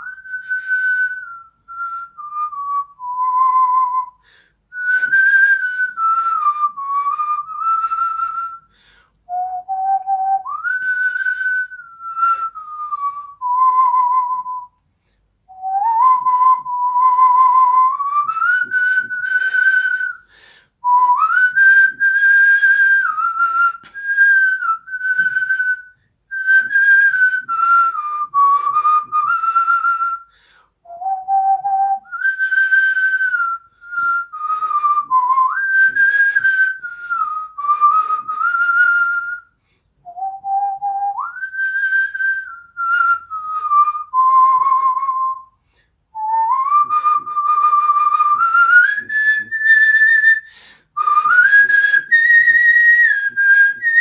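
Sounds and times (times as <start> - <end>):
man whistling a melody: 0.0 - 54.0.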